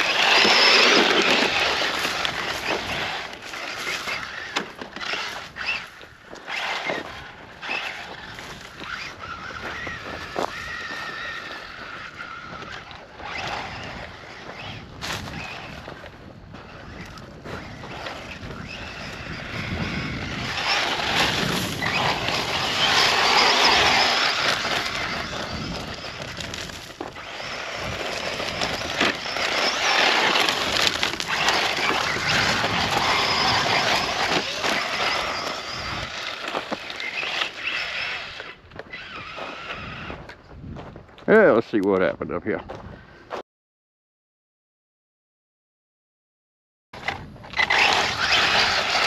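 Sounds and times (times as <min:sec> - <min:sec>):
toy truck motor and tyres rushing: 0:00.0 - 0:42.1, 0:47.0 - 0:49.0.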